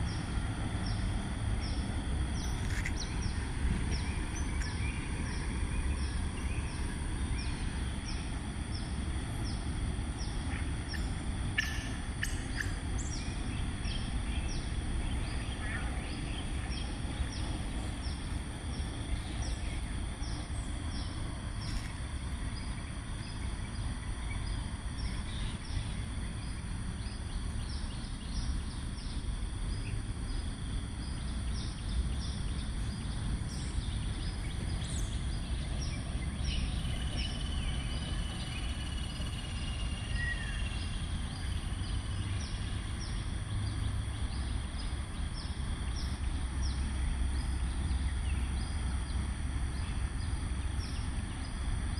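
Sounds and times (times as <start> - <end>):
steady low rumble: 0.0 - 51.9.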